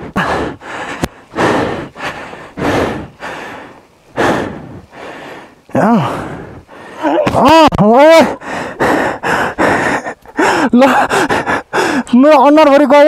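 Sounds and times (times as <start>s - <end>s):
person breathing hard: 0.0s - 7.2s, 8.2s - 12.1s.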